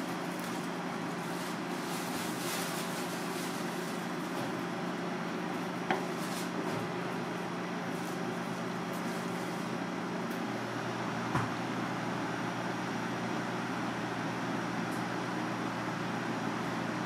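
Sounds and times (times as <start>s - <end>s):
ventilation fan hum: 0.0s - 17.0s.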